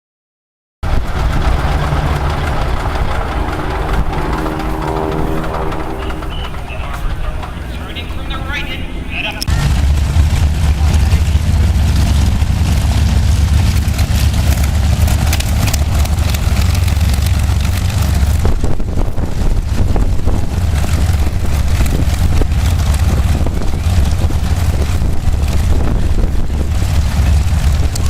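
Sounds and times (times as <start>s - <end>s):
piston-engine plane rumbling: 0.8s - 28.0s.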